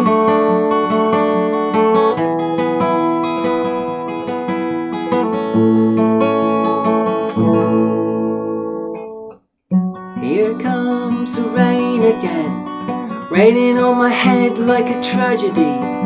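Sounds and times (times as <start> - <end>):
finger-picked acoustic guitar: 0.0 - 16.0.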